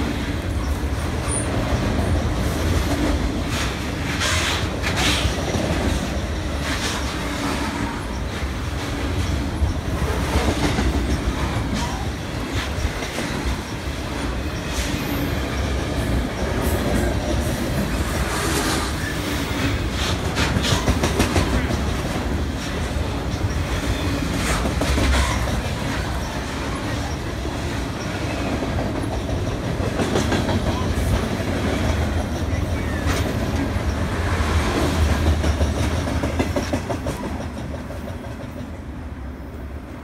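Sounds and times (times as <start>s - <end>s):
train clicks and clatter: 0.0s - 40.0s
train wheels rumbling on rail: 0.0s - 40.0s.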